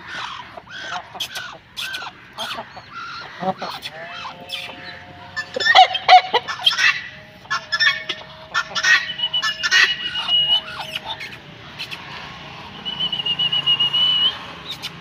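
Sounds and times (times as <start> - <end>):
poultry squawking and chattering: 0.0 - 15.0.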